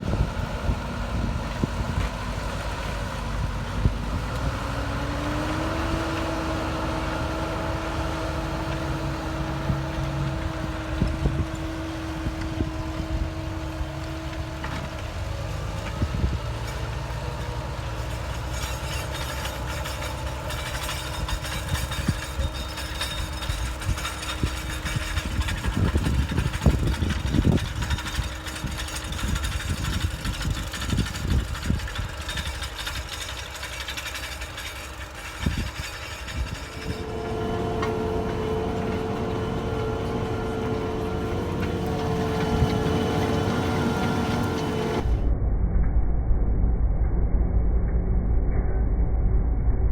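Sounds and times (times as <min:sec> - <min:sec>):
tractor engine rumbling: 0:00.0 - 0:45.6
engine whine: 0:00.0 - 0:49.9.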